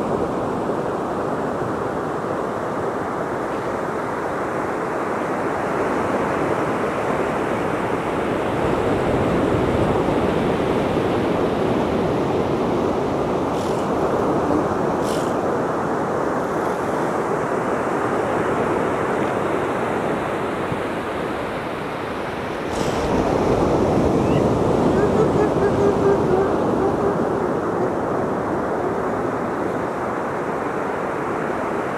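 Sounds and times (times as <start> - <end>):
ocean surf breaking: 0.0 - 31.9
wind on microphone: 0.0 - 31.9.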